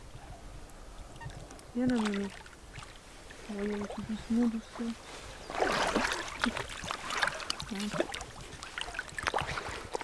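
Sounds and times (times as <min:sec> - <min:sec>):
rush of water: 0:01.1 - 0:10.0
fish splashing in shallow water: 0:01.2 - 0:10.0.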